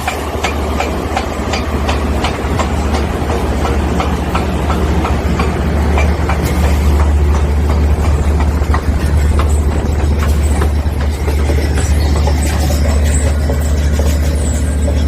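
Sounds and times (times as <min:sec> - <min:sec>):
loud low engine drone: 0:00.0 - 0:15.0.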